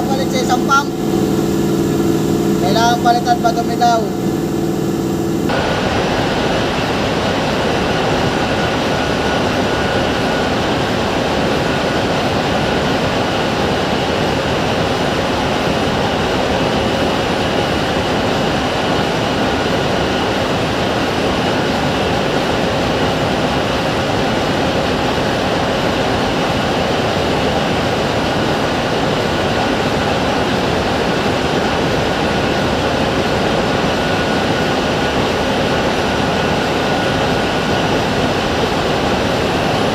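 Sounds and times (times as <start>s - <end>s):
hydraulic machine engine droning: 0.0s - 39.9s.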